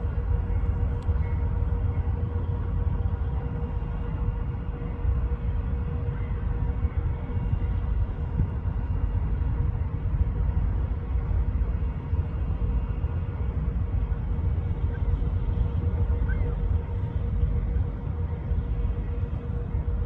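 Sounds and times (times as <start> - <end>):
faint steady hum: 0.0 - 20.0
low vehicle rumble: 0.0 - 20.0.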